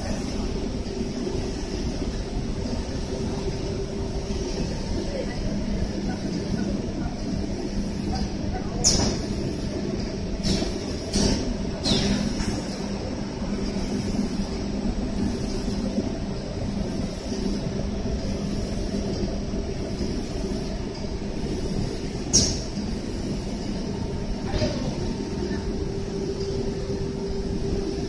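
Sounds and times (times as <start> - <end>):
machine rumble and hum: 0.0 - 28.0.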